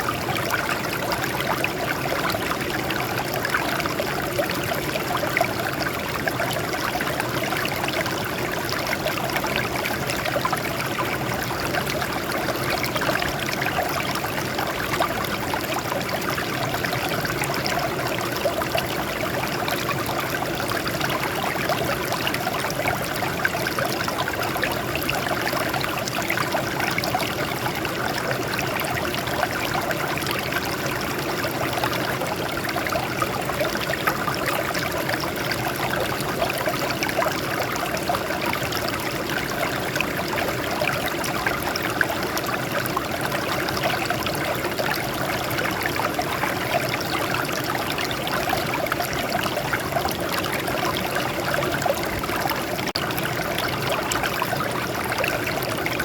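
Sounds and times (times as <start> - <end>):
water trickling over rocks: 0.1 - 56.0.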